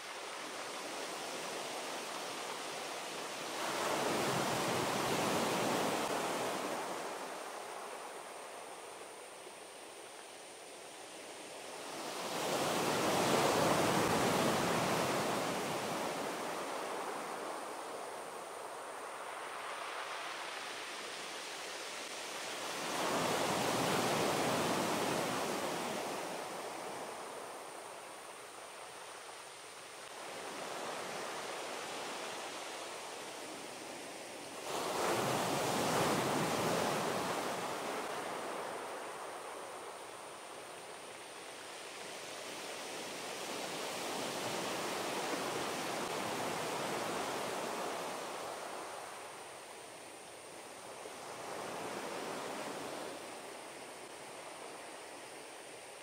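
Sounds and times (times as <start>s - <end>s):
sea waves breaking on beach: 0.0s - 8.5s, 11.4s - 54.2s.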